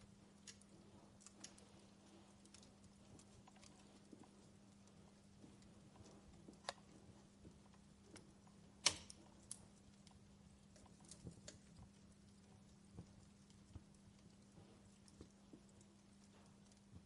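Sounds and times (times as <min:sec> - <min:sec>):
fireplace fire crackling: 0:00.0 - 0:17.0
steady low hum: 0:00.0 - 0:17.0.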